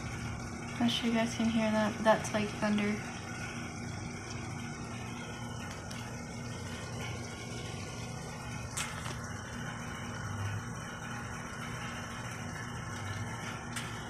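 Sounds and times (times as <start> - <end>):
low steady rumble: 0.0 - 14.0
steady rain falling: 0.0 - 14.0.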